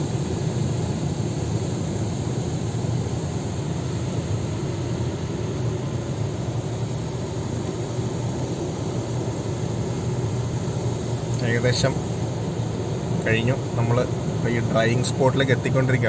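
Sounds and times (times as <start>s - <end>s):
car wash machinery rumble and hiss: 0.0s - 16.0s.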